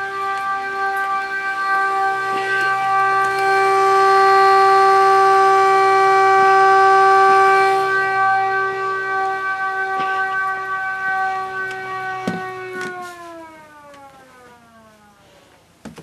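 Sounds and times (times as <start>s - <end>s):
electric siren steady tone: 0.0s - 15.8s.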